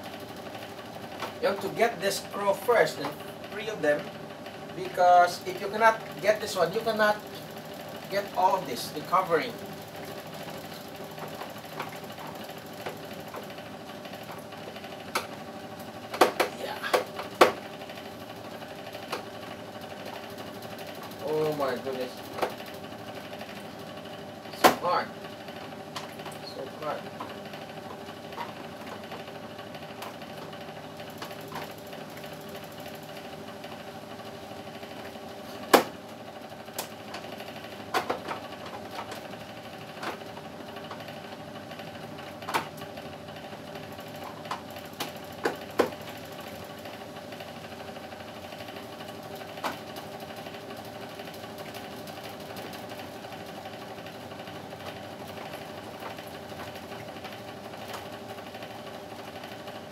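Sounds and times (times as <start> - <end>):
electric motor hum: 0.0 - 59.9.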